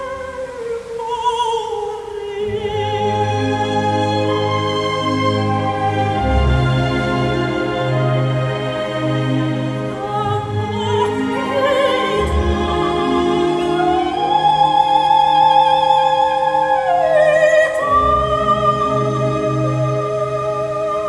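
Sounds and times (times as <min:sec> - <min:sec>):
operatic singing with vibrato: 0:00.0 - 0:21.0
orchestral accompaniment: 0:02.1 - 0:21.0.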